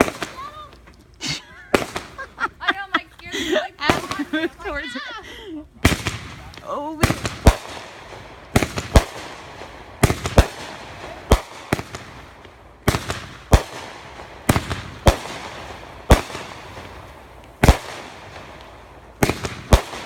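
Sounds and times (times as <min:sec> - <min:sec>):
firework bangs with crackling: 0:00.0 - 0:00.9, 0:01.6 - 0:02.4, 0:03.8 - 0:04.8, 0:05.8 - 0:20.0.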